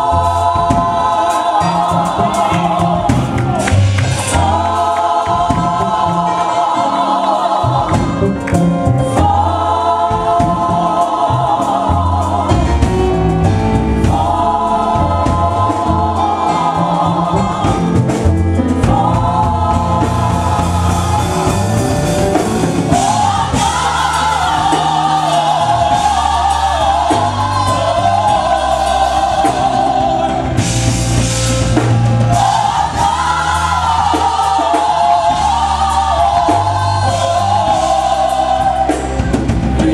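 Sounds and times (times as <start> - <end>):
bass and drums: 0.0 - 39.9
gospel choir singing: 0.0 - 39.9.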